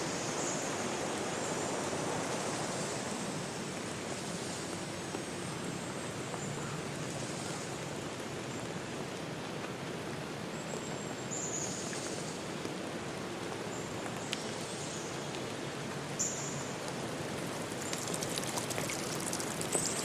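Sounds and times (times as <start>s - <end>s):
steady rushing hiss: 0.0s - 8.0s, 11.4s - 20.0s.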